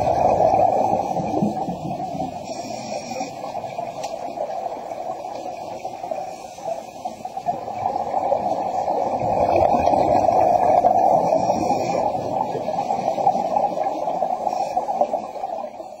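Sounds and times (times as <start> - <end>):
underwater air bubbles hissing: 0.0 - 16.0.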